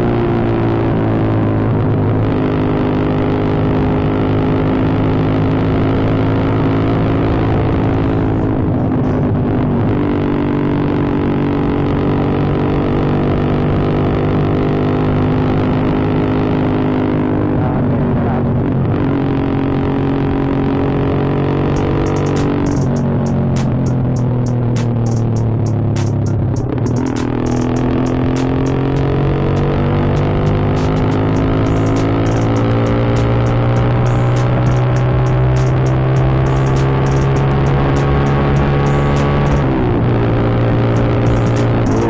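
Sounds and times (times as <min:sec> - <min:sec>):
motorcycle engine droning: 0:00.0 - 0:42.0.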